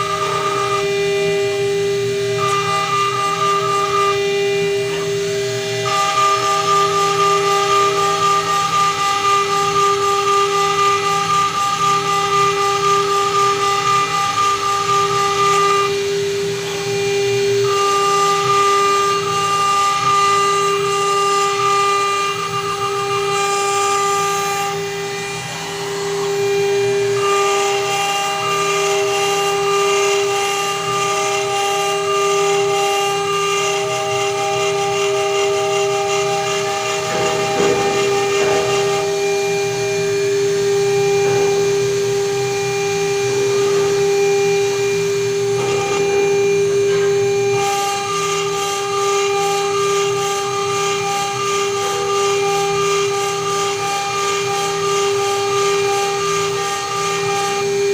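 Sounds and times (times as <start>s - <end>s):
router spindle whining: 0.0s - 57.9s.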